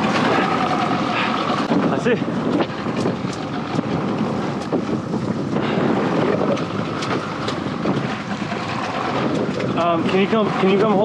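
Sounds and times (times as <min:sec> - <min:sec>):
water rushing past boat hull: 0:00.0 - 0:11.0
wind buffeting microphone: 0:00.0 - 0:11.0.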